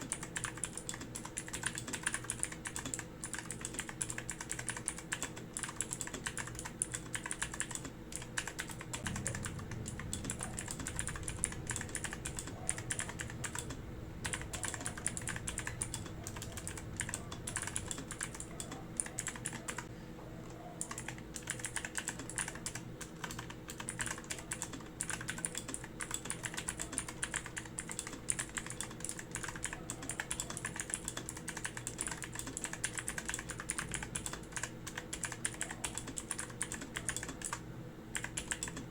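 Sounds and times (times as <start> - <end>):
clicky mechanical keyboard typing: 0.0 - 38.9.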